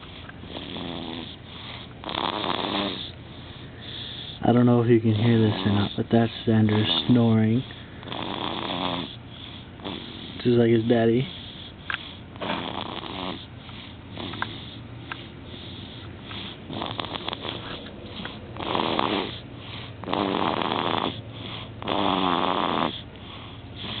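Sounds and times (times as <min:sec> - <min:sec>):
baby snoring: 0:00.0 - 0:07.4, 0:08.0 - 0:24.0.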